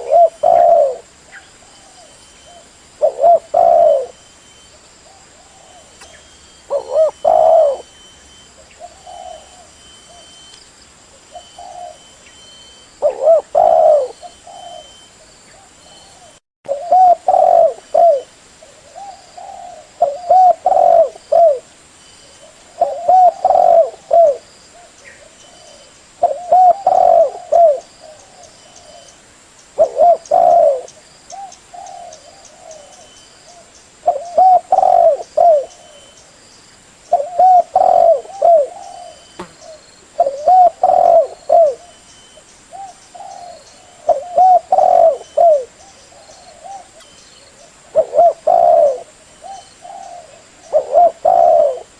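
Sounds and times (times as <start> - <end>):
dove cooing: 0.0 - 4.2, 5.1 - 10.4, 11.3 - 21.7, 22.3 - 29.1, 29.8 - 36.2, 37.1 - 51.9.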